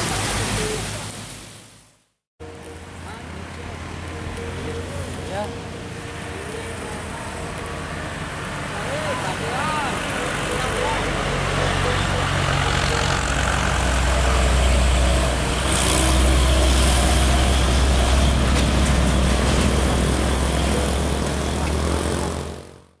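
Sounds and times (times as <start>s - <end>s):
diesel truck engine labouring: 2.4s - 23.0s.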